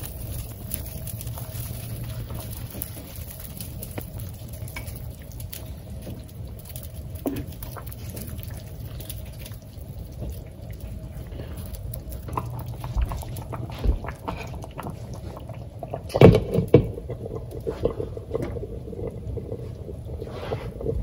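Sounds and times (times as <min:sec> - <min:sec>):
soup bubbling in a pot: 0:00.0 - 0:21.0.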